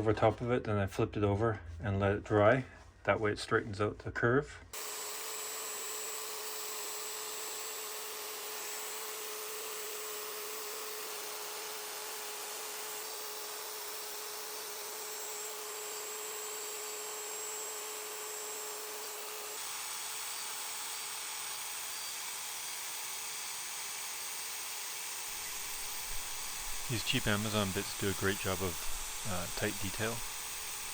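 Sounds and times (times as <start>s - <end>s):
router whining while carving wood: 4.7s - 30.9s.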